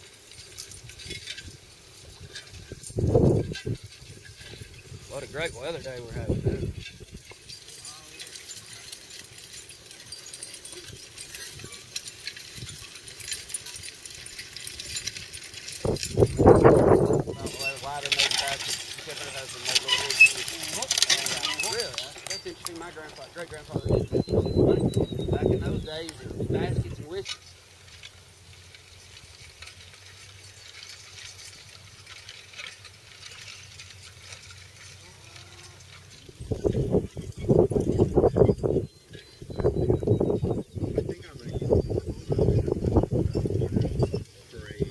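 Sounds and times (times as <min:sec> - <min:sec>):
harness chains jingling: 0:00.0 - 0:44.9
outdoor background: 0:00.0 - 0:44.9.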